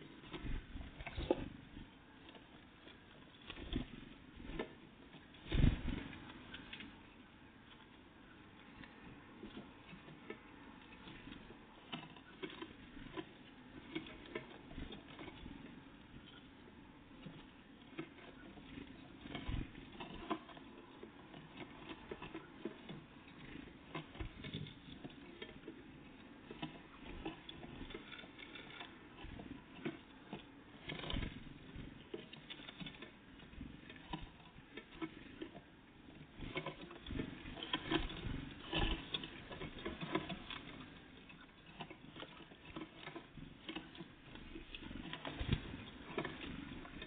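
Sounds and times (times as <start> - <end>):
birds pecking at a feeder: 0.0 - 47.0.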